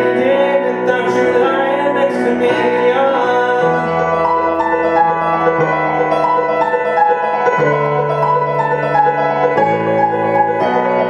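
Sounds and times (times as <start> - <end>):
solo piano: 0.0 - 11.0.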